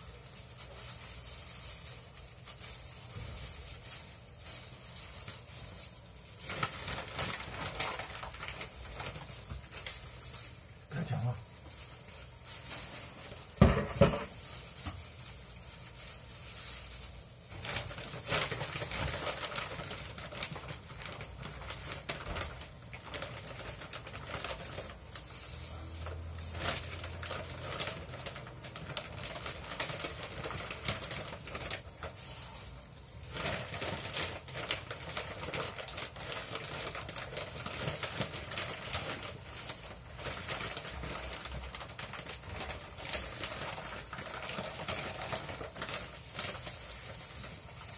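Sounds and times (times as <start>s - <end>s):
plastic bag rustling: 0.0s - 47.9s.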